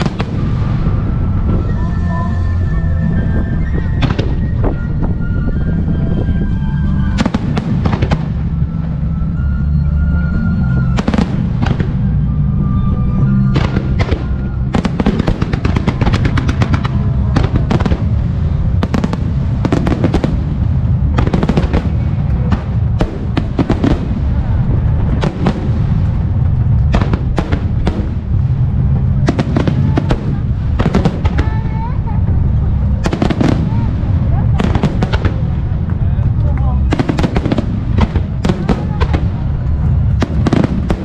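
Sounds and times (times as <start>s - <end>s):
firework bursts and crackles: 0.0s - 1.8s, 7.1s - 9.1s, 10.9s - 12.6s, 13.3s - 41.0s
music: 0.0s - 41.0s.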